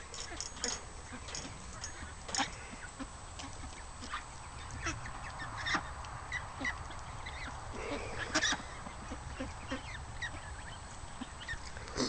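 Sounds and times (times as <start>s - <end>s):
ducks and chickens calling: 0.0s - 12.0s.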